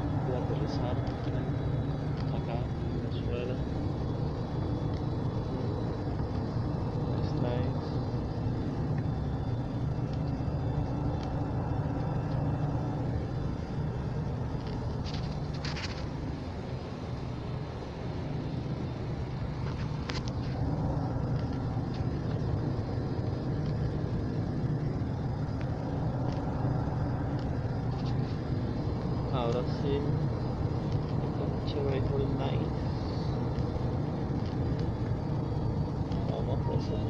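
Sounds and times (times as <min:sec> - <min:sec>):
jet airliner cabin drone: 0:00.0 - 0:37.0.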